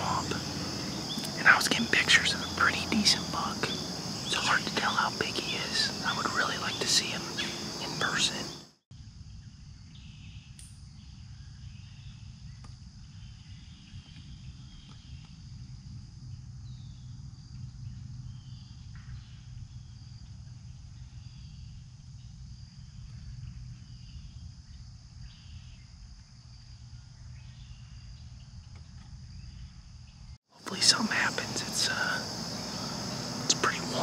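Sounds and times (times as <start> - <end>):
insect chirps: 0.0 - 34.0
insects trilling drone: 0.0 - 34.0.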